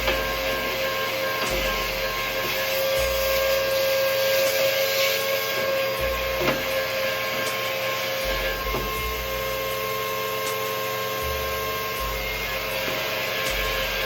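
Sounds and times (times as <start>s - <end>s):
vacuum cleaner motor whine: 0.0s - 14.0s.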